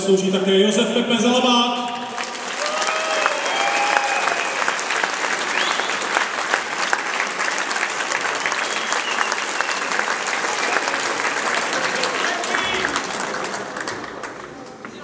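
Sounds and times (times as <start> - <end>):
crowd applauding: 1.8 - 15.0.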